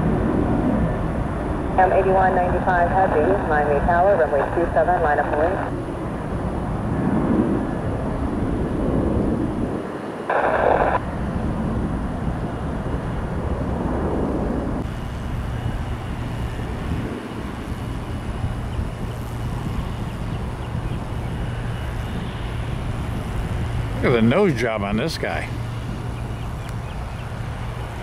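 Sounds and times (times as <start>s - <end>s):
jet engine roar: 0.0s - 28.0s
wind on microphone: 0.0s - 28.0s.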